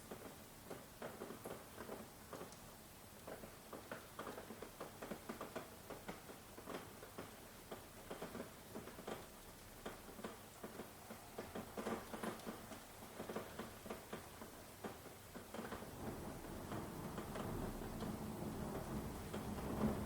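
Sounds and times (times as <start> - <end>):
faint steady rain hiss: 0.0 - 20.0
rain drips and taps: 0.0 - 20.0.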